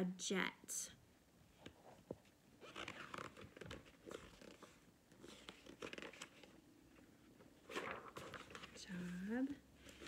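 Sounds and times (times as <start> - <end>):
paper pages rustling: 1.6 - 10.0.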